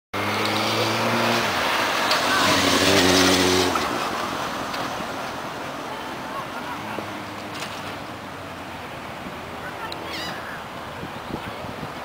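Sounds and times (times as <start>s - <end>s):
vehicle passing: 0.2s - 12.0s.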